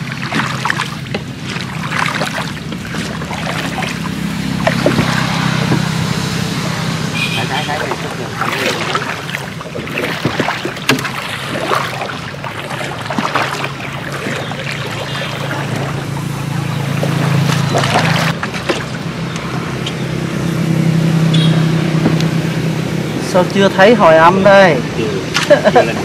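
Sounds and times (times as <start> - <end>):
small boat engine running: 0.0 - 26.0
water splashes: 0.0 - 26.0.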